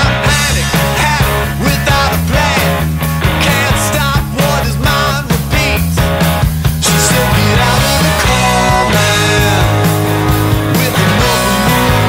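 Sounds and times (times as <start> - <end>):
rock music: 0.0 - 12.0
steady drum beat: 0.0 - 12.0.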